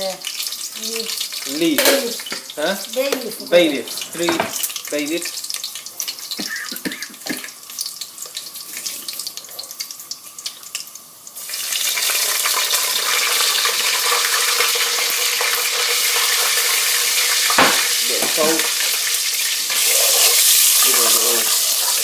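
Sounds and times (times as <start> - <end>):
loud steady sizzle: 0.0 - 22.0
spices crackling in hot oil: 0.0 - 22.0.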